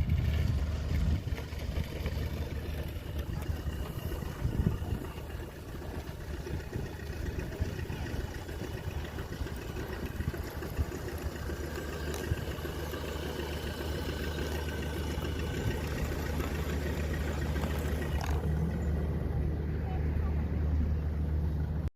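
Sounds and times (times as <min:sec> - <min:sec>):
bulldozer engine humming: 0:00.0 - 0:21.9.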